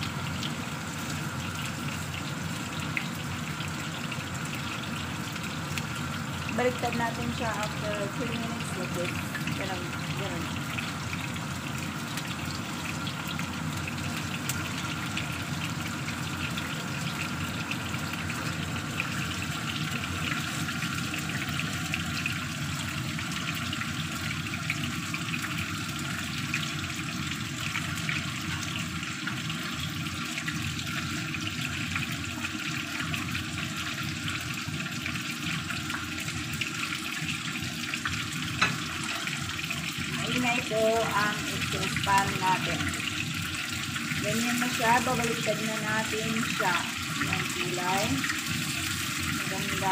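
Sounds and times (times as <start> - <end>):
chicken sizzling in a pan: 0.0 - 49.9.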